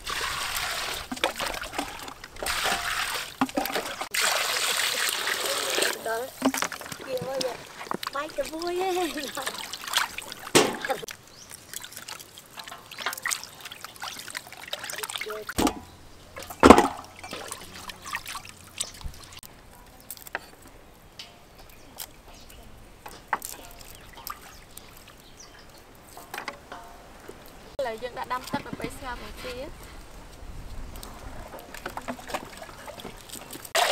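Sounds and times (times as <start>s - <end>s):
water sloshing and trickling: 0.0s - 33.9s.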